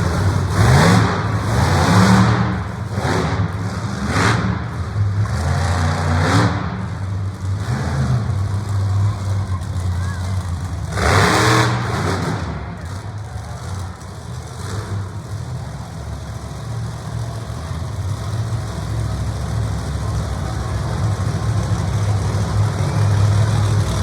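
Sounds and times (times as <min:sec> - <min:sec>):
monster truck engine drone: 0:00.0 - 0:24.0.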